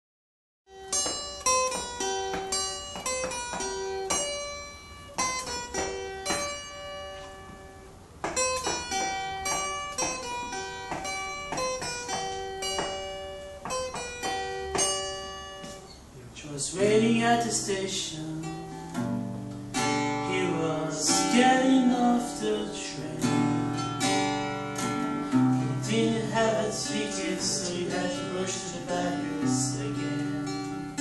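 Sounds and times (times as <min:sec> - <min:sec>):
acoustic guitar picking: 0:00.7 - 0:31.0.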